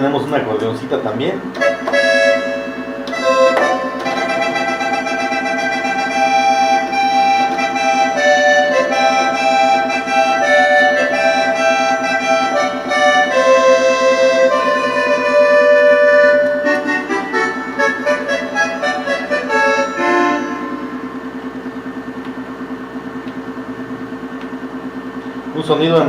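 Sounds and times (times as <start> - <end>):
synthesizer accordion melody: 1.3 - 22.2.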